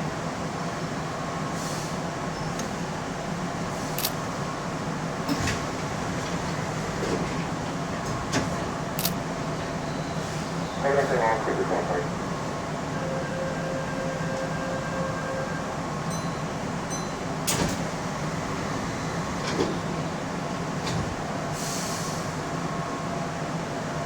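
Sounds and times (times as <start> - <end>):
train interior hum: 0.0 - 24.0.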